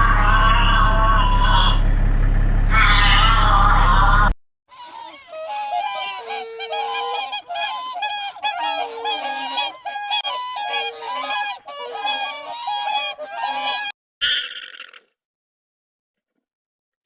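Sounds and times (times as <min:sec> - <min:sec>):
flock of birds calling: 0:00.0 - 0:13.9.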